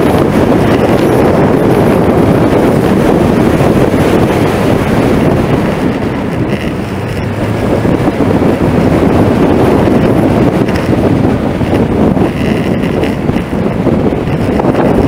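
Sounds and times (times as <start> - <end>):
vehicle and road noise: 0.0 - 15.0
wind buffeting microphone: 0.0 - 15.0.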